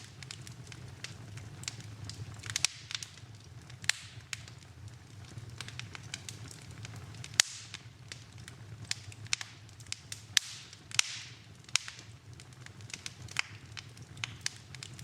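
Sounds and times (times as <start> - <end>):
fire crackling: 0.0 - 15.0
low fire rumble: 0.0 - 15.0
sharp fire pops: 0.0 - 15.0.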